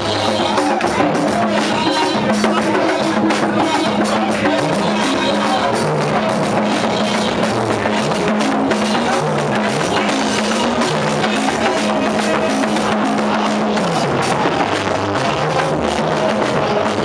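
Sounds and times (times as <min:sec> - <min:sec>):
bass line: 0:00.0 - 0:17.0
drum kit: 0:00.0 - 0:17.0
upbeat band music: 0:00.0 - 0:17.0.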